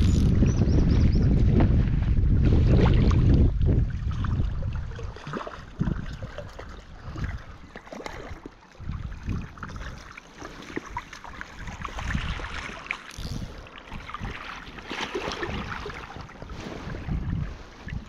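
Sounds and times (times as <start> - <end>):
water splashing and sloshing: 0.0 - 18.0
wind rumble on microphone: 0.0 - 18.0.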